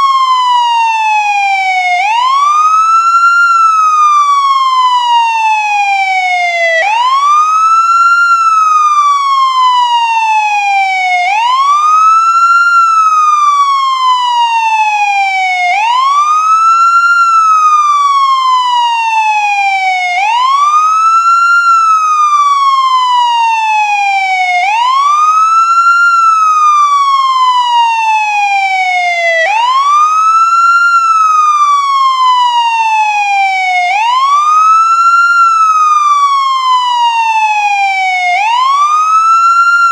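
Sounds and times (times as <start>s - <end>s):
ambulance siren wailing: 0.0s - 39.9s.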